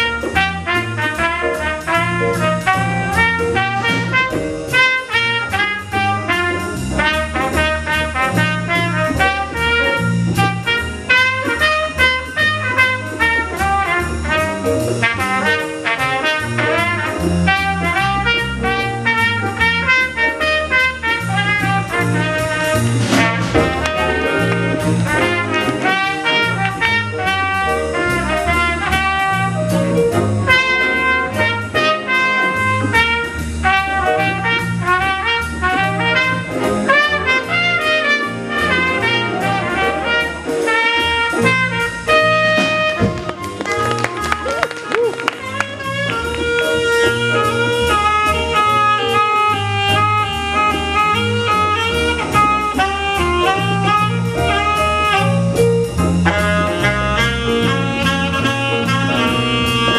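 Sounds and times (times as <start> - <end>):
jazz big band playing: 0.0 - 59.9.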